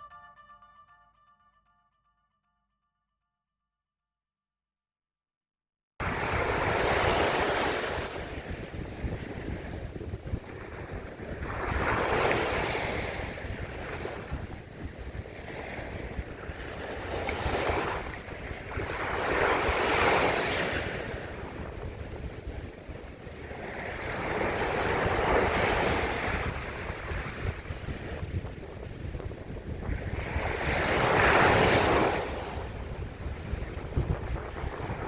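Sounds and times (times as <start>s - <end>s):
waves breaking: 6.0s - 35.0s
wind rumbling on microphone: 6.0s - 35.0s.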